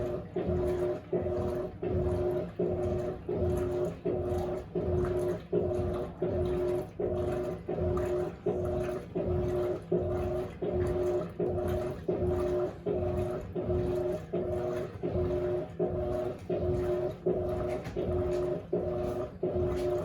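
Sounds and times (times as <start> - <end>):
washing machine motor humming: 0.0 - 20.0
water sloshing: 0.0 - 20.0.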